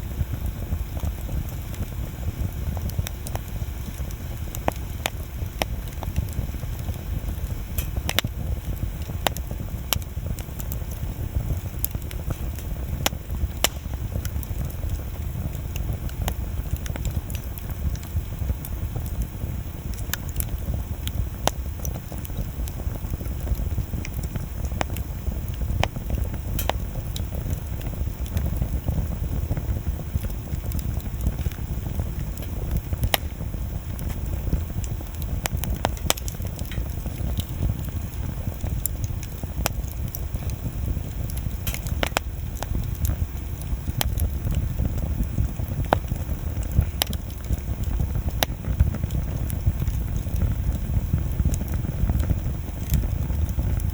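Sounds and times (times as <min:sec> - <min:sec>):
bonfire crackling and popping: 0:00.0 - 0:53.9.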